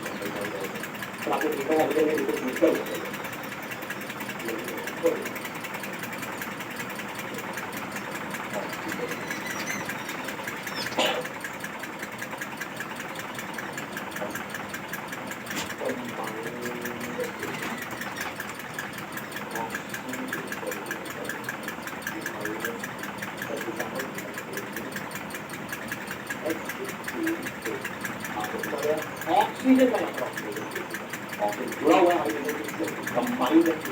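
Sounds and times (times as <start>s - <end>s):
small motor running: 0.0s - 33.9s.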